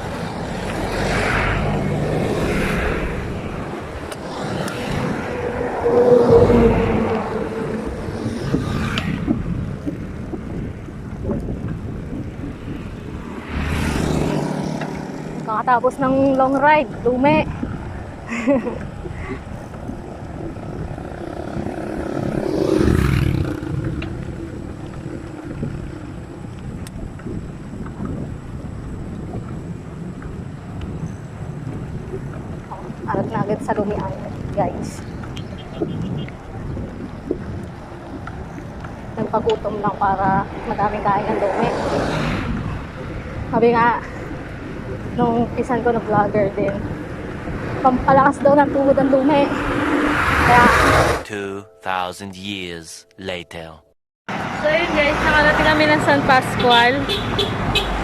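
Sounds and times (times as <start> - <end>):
wind on microphone: 0.0 - 51.2
passing motor traffic: 0.0 - 51.4, 54.3 - 58.0.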